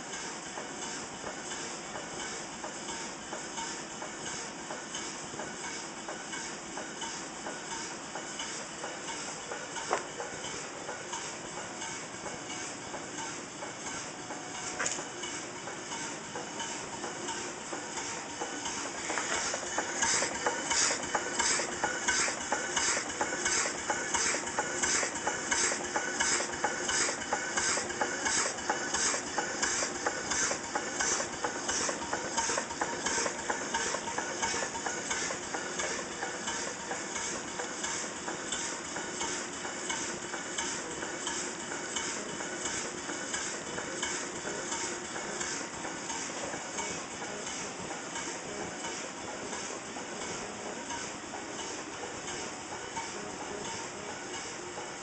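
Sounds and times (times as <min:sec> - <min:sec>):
steam engine exhaust hissing: 0:00.0 - 0:55.0.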